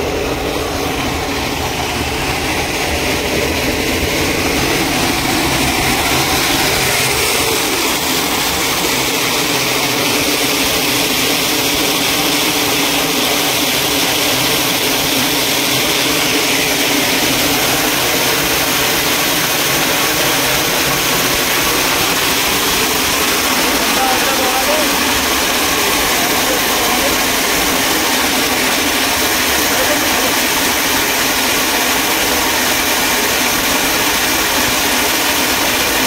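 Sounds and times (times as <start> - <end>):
machinery whirring and hissing: 0.0 - 36.0.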